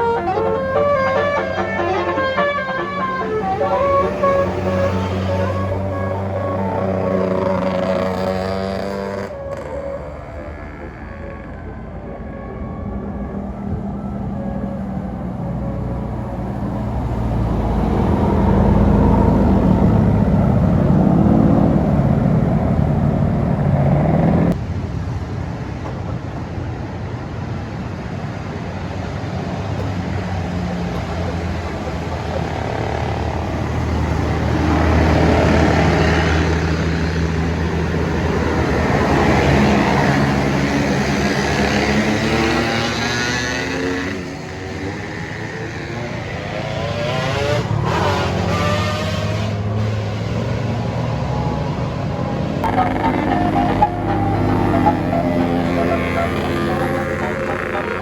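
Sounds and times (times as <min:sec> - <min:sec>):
buses driving past: 0:00.0 - 0:58.0.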